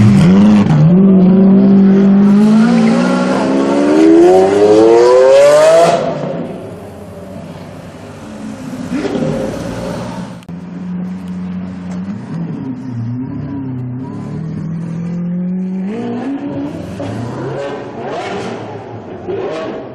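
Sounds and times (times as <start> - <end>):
car engine revving: 0.0 - 10.5, 11.2 - 19.9.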